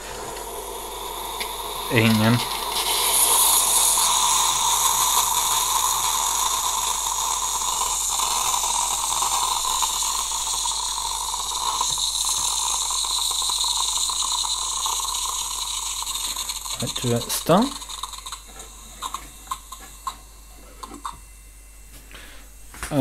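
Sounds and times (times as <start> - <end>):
coffee machine hissing water and steam: 0.0 - 22.6.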